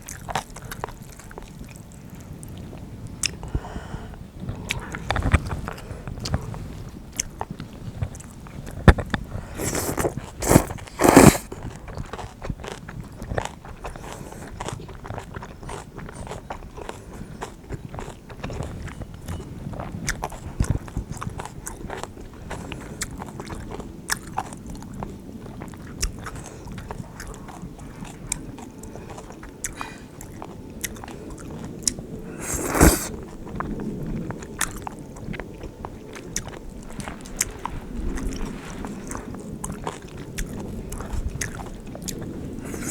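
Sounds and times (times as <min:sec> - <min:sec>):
chewing and crunching noodles: 0:00.0 - 0:42.9.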